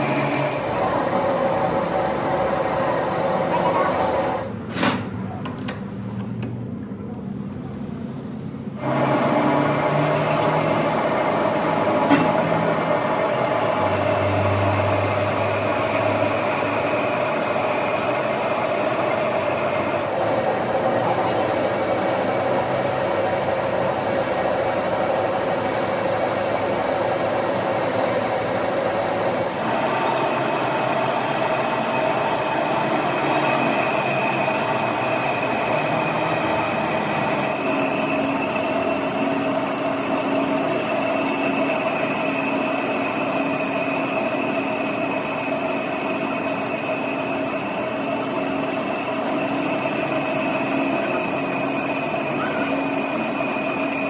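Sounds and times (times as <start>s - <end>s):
machine tool cutting metal: 0.0s - 4.5s, 8.8s - 54.0s.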